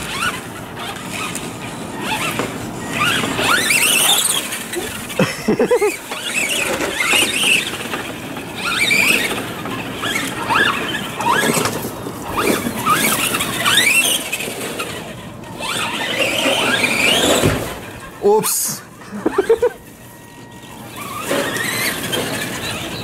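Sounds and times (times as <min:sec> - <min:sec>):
rc truck motors whining: 0:00.0 - 0:23.0.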